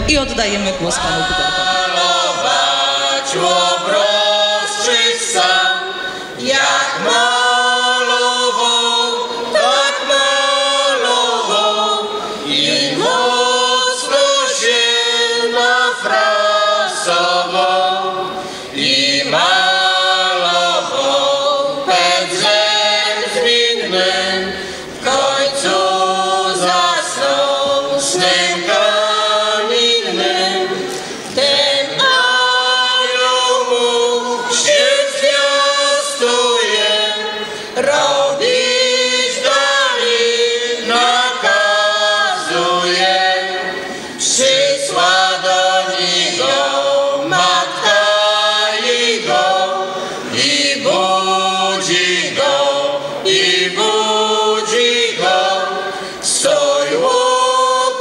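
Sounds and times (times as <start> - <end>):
choir singing folk song a cappella: 0.0 - 58.0.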